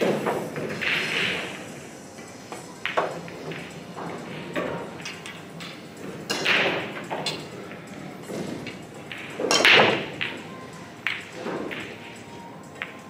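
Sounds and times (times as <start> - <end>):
pool balls clacking: 0.0 - 13.0.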